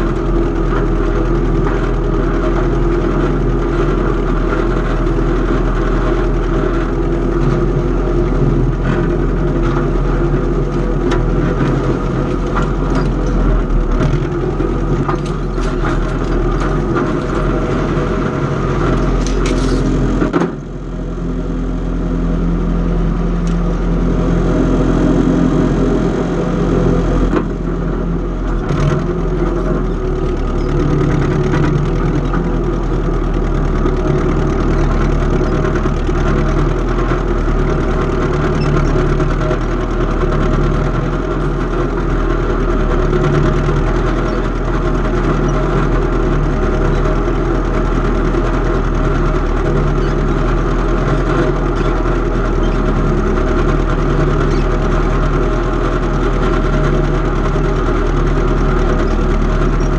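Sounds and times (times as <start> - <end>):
farm machinery engine running: 0.0 - 59.9.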